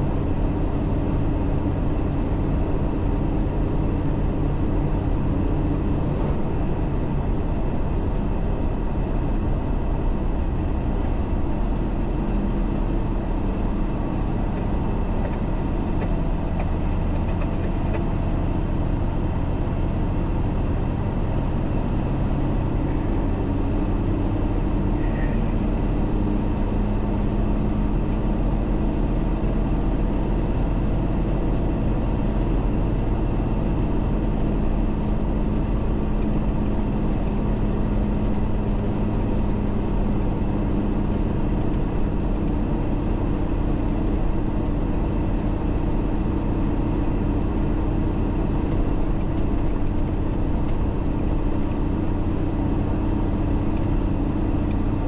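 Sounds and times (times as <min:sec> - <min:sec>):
road noise: 0:00.0 - 0:55.0
truck diesel engine running: 0:00.0 - 0:55.0.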